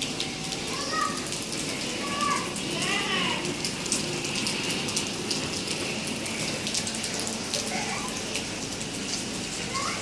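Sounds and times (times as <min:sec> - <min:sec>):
raindrops splashing: 0:00.0 - 0:10.0
steady rain: 0:00.0 - 0:10.0.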